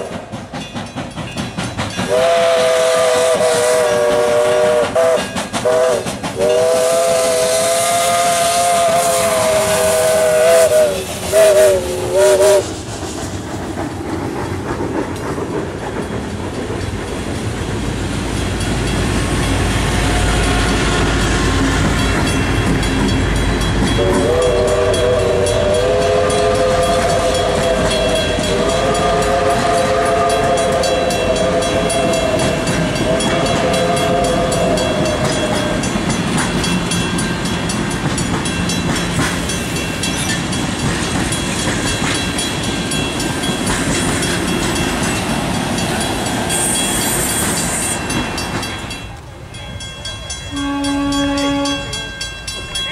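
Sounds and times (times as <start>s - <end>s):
steam locomotive chime whistle: 0.0s - 12.8s, 18.3s - 52.9s
train rail clatter: 0.0s - 52.9s.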